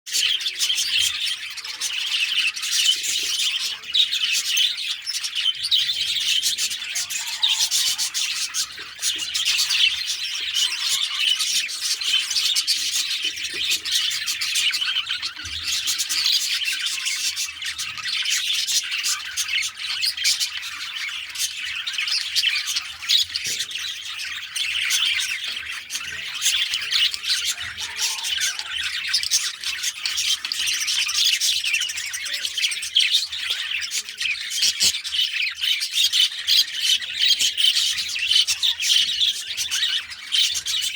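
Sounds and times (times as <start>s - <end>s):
budgerigars chirping and squawking: 0.1s - 40.9s.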